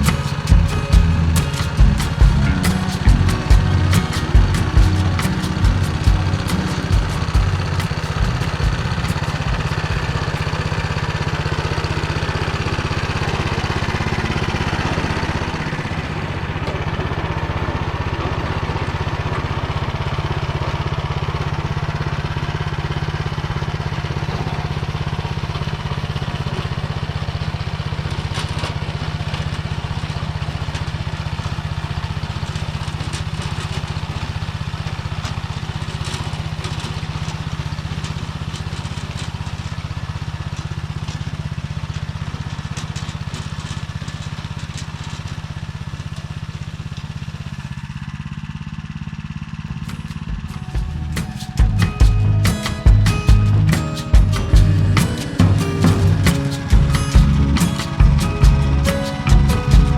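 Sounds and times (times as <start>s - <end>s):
small engine under load: 0.0s - 59.9s
tiller churning soil: 0.0s - 59.9s.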